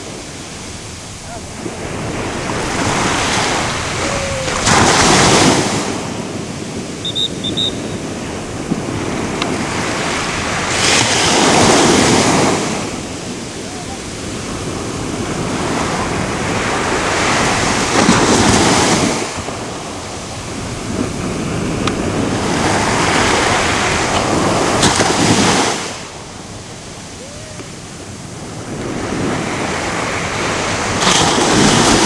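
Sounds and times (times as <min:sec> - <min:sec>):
waves crashing on shore: 0:00.0 - 0:32.0.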